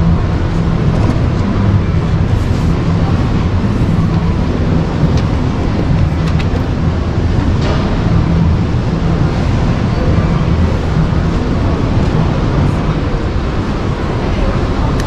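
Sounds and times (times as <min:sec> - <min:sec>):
rumbling hall ambience: 0:00.0 - 0:15.0.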